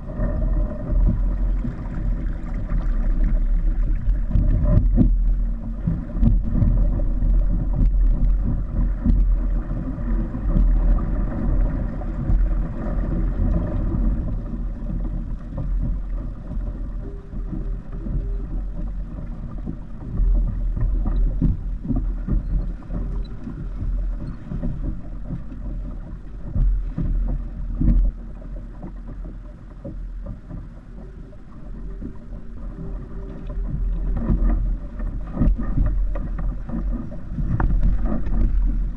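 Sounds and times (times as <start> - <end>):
water splashing against hull: 0.0 - 38.9
wind buffeting microphone: 0.0 - 38.9.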